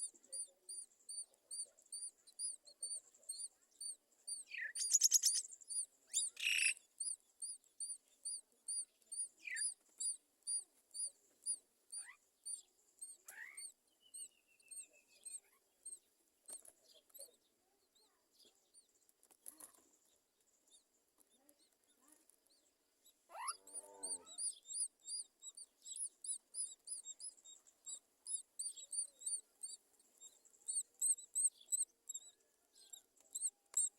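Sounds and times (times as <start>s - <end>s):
bird chirping: 0.0s - 33.9s.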